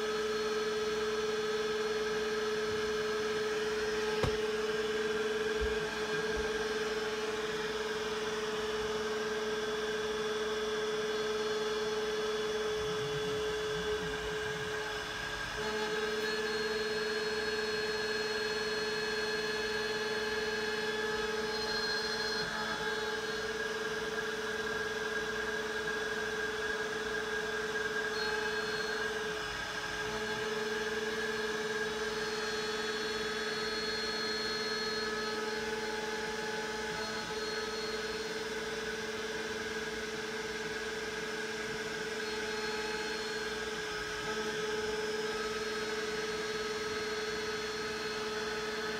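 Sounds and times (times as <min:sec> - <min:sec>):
router milling wood with whine: 0:00.0 - 0:48.9.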